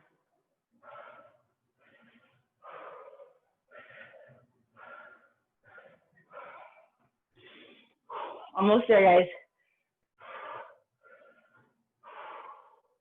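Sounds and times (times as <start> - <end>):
person breathing hard: 0.0 - 8.6, 9.6 - 13.0.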